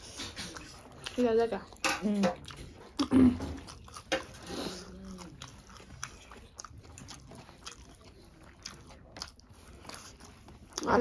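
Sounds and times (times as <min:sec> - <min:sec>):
chewing and lip smacks: 0:00.0 - 0:11.0.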